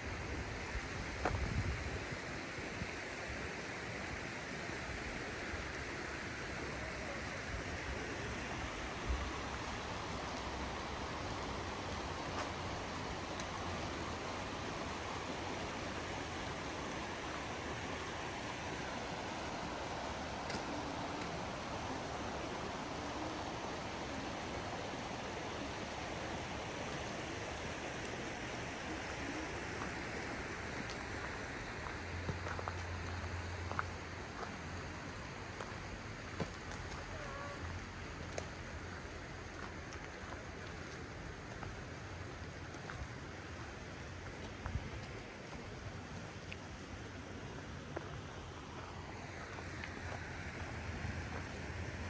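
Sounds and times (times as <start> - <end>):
stream rushing water: 0.0 - 52.0.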